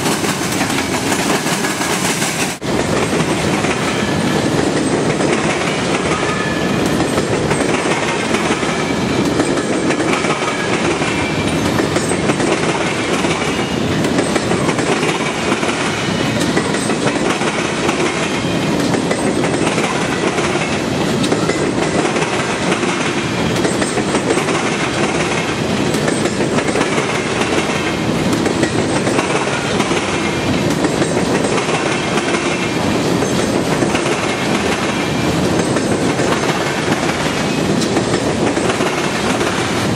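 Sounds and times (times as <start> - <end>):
train wheels clacking over rails: 0.0 - 39.9.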